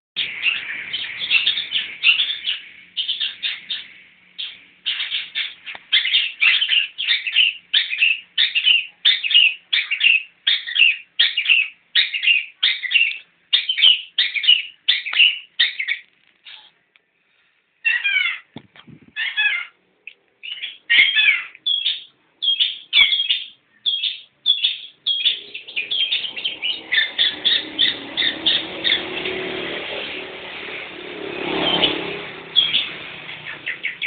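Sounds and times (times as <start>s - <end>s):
shrike calling: 0.2s - 16.7s, 20.4s - 29.5s, 31.6s - 34.0s.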